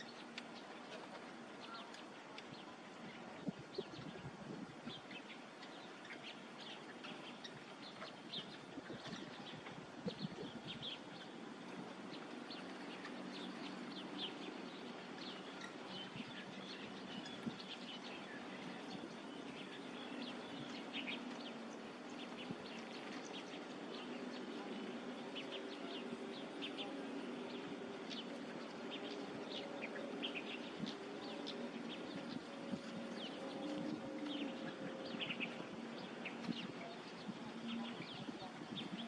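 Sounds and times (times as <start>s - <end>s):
small birds chirping: 0.0s - 39.0s
steady background hiss: 0.0s - 39.0s.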